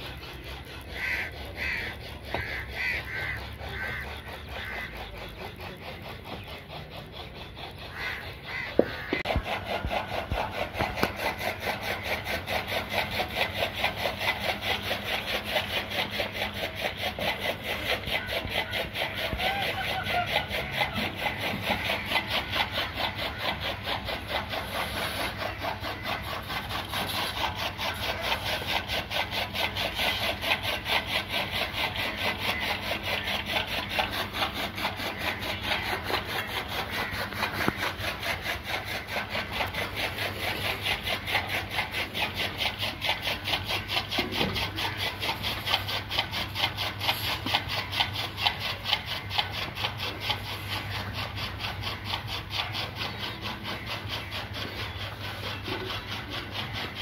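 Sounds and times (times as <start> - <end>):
water buffalo chewing fodder: 0.0 - 57.0.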